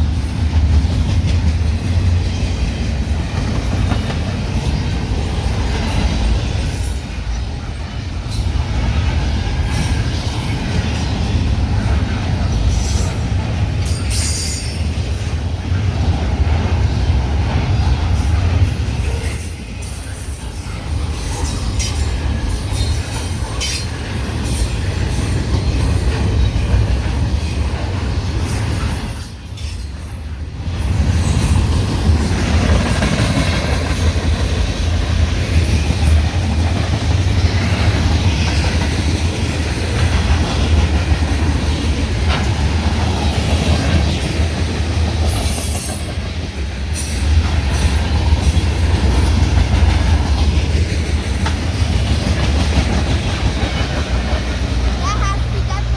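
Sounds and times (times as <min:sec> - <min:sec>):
train wheels clacking over rail joints: 0:00.0 - 0:55.9.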